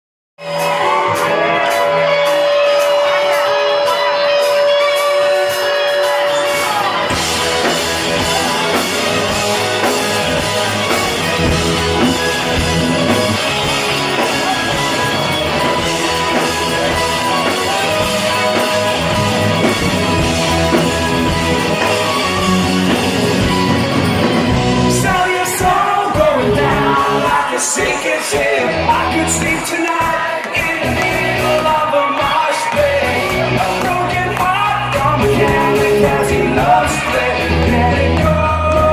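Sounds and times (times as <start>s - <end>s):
crowd shouting: 0.4s - 38.9s
live rock band playing: 0.4s - 38.9s
person singing: 0.4s - 38.9s.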